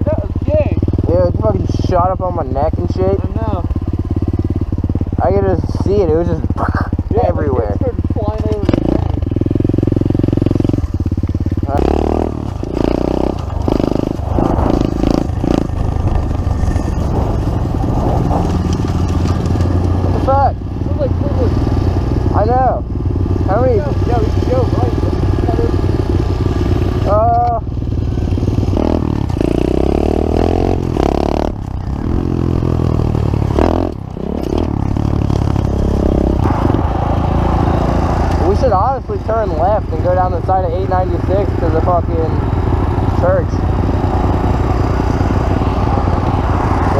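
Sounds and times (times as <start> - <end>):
motorbike engine running: 0.0 - 46.9.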